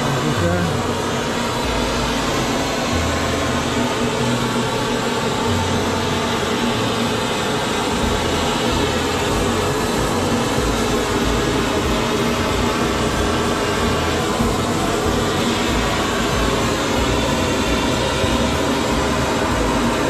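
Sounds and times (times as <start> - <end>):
gas burner torch burning: 0.0 - 20.0.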